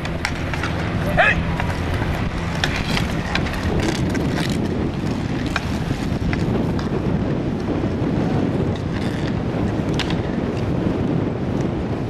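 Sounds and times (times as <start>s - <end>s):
faint hockey clacks on asphalt: 0.0s - 10.8s, 11.5s - 11.8s
wind buffeting microphone: 0.0s - 12.0s.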